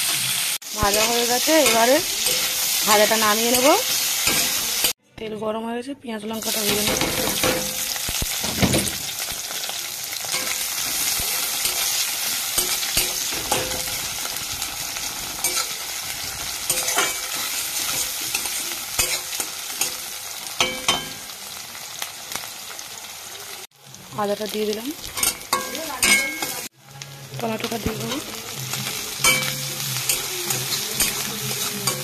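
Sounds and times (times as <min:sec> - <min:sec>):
vegetables sizzling in hot oil: 0:00.0 - 0:05.0, 0:06.4 - 0:32.0.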